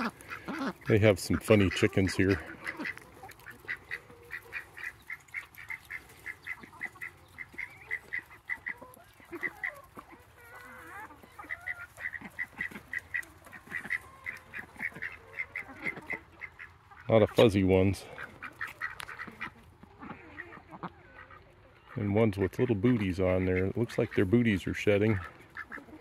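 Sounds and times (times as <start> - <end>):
poultry calling: 0.0 - 26.0.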